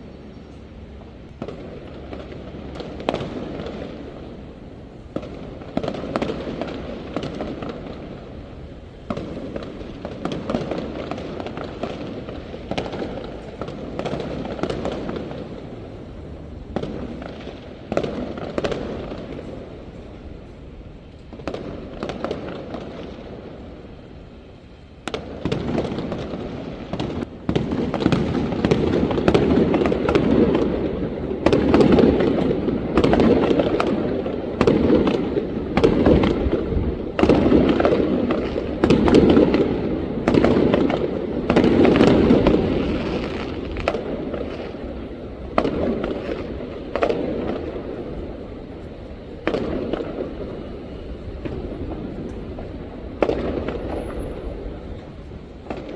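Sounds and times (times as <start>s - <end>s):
fireworks cracks and booms: 1.3s - 55.9s.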